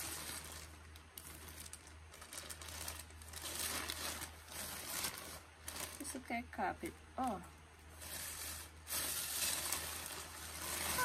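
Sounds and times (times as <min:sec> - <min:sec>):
plastic bag crinkling: 0:00.0 - 0:06.5, 0:07.8 - 0:11.0.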